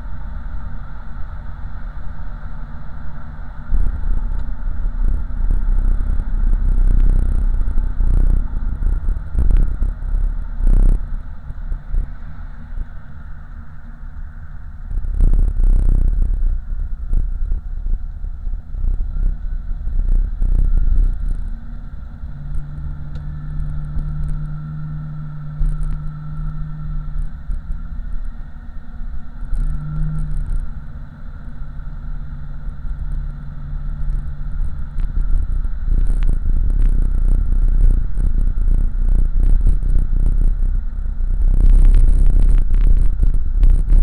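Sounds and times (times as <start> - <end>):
car engine exhaust rumble: 0.0 - 44.0.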